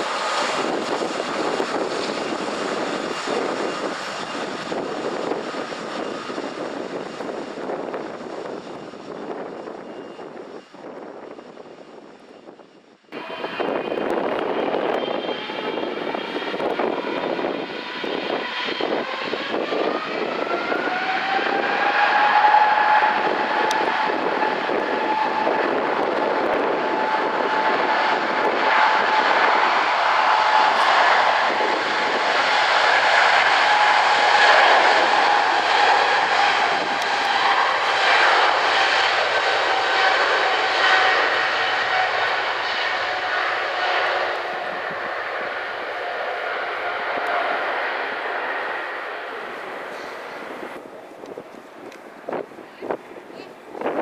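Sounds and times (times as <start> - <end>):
jet engine roar with whine: 0.0 - 54.0.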